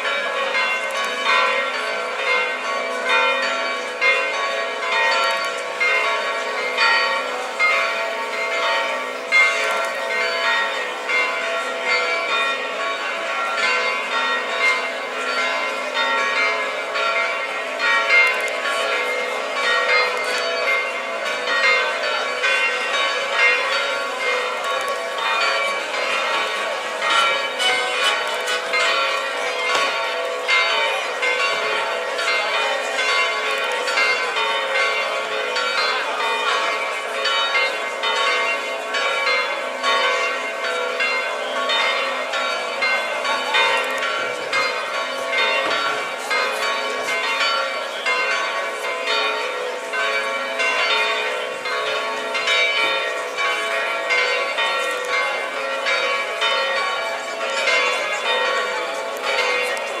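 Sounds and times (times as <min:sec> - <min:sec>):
bells ringing: 0:00.0 - 1:00.0.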